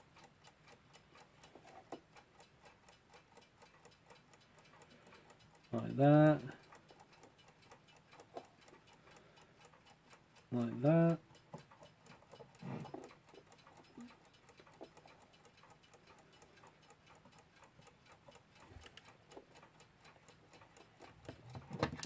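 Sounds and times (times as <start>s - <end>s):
alarm clock ticking: 0.0s - 22.0s.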